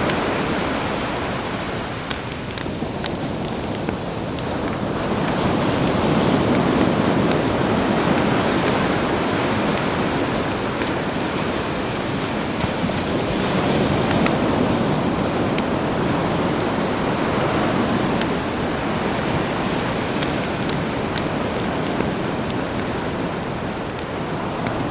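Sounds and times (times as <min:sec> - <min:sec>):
campfire crackling: 0:00.0 - 0:24.9
sea waves washing ashore: 0:00.0 - 0:24.9.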